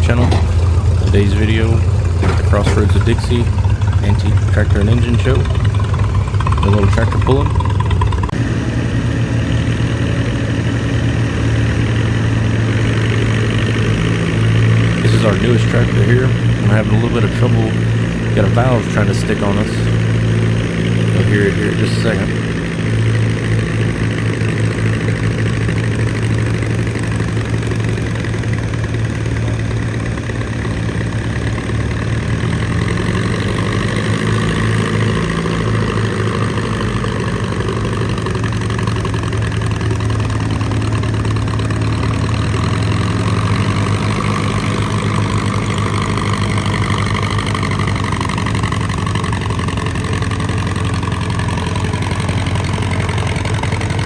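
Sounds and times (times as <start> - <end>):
tractor engine labouring: 0.0 - 54.0.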